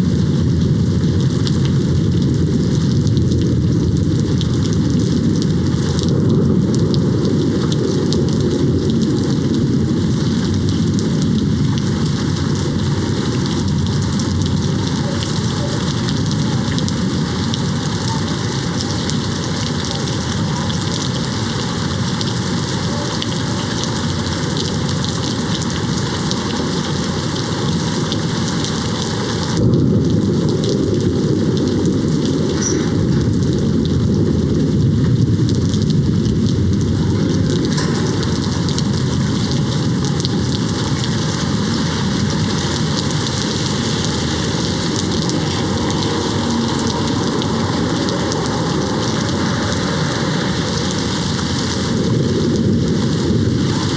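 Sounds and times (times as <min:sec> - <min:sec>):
distant thunder rumble: 0:00.0 - 0:53.9
rain hitting a window: 0:00.0 - 0:53.9.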